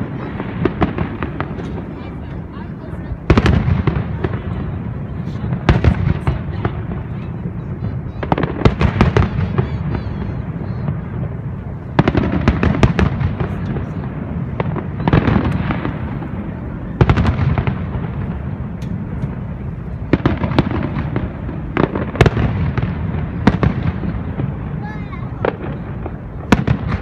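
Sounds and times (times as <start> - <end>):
low background noise: 0.0 - 27.0.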